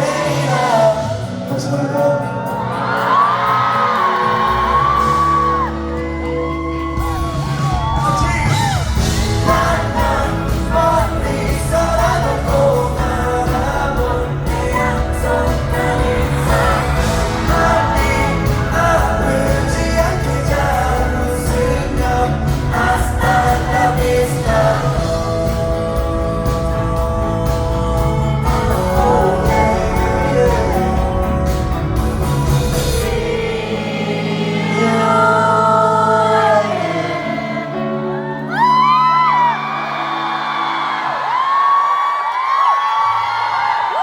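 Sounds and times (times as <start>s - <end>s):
live pop music with singing: 0.0s - 44.0s.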